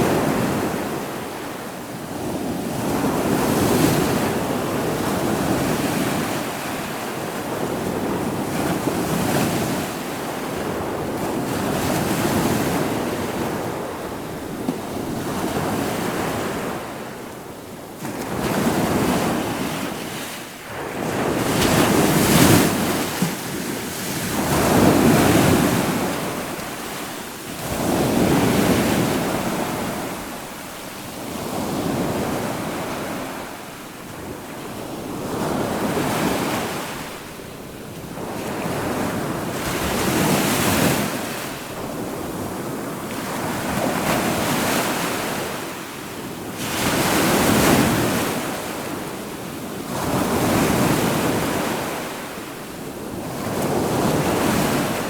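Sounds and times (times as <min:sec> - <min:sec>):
waves breaking and washing ashore: 0:00.0 - 0:55.0.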